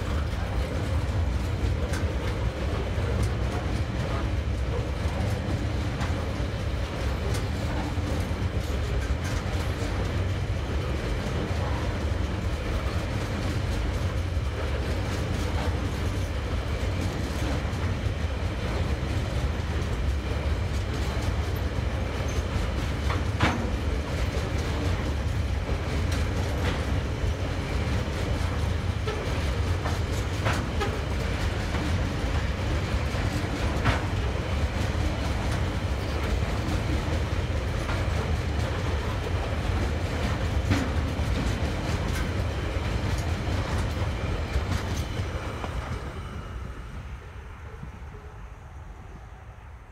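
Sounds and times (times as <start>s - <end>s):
train wheels rumbling on rail: 0.0s - 49.9s.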